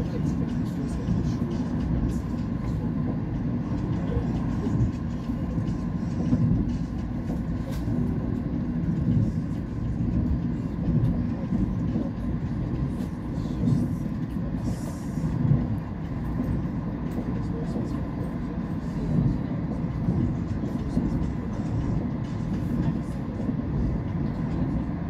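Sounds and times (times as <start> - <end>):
train rumble inside carriage: 0.0 - 25.0.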